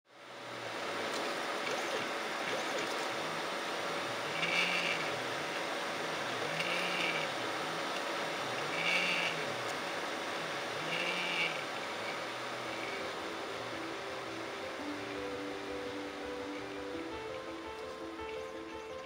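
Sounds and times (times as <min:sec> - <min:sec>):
stepper motors humming: 0:00.1 - 0:19.0.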